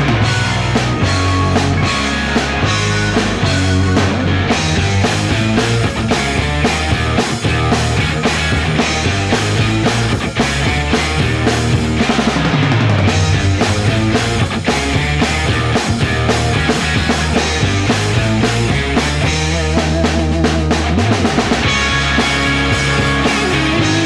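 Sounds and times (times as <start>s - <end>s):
rock music with drums and guitar: 0.0s - 24.0s.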